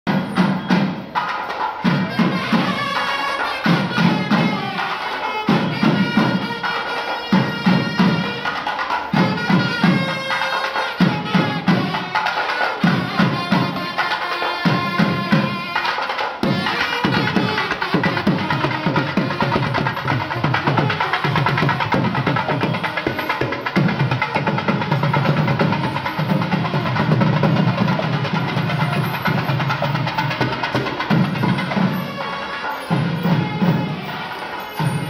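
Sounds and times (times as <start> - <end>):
shrill double-reed pipe melody: 1.8 - 35.0.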